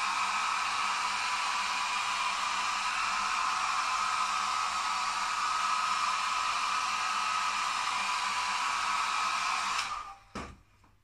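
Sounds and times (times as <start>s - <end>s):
hair dryer running: 0.0s - 10.6s.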